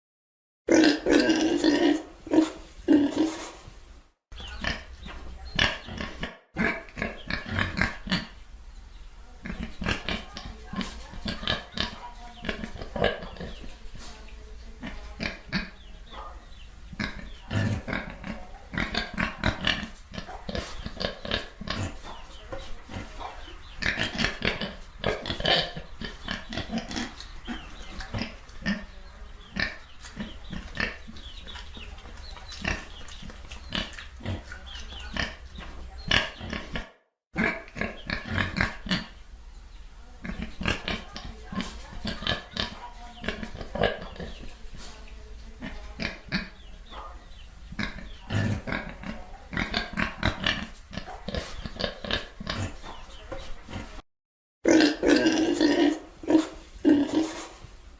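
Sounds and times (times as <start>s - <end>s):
pigs grunting and oinking: 0.7s - 3.6s, 4.4s - 8.4s, 9.4s - 13.8s, 14.8s - 16.2s, 16.9s - 39.2s, 40.2s - 44.6s, 45.6s - 47.0s, 47.7s - 54.0s, 54.6s - 57.6s.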